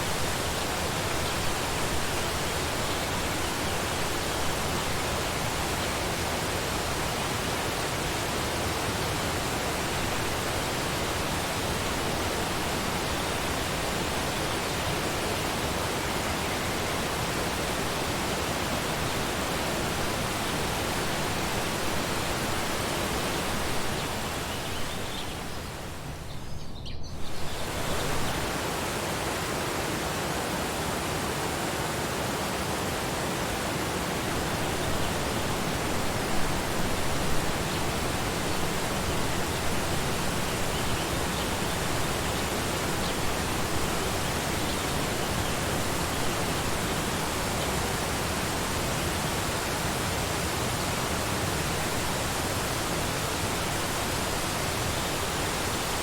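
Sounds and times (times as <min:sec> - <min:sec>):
waterfall rushing: 0:00.0 - 0:26.1, 0:27.5 - 0:56.0.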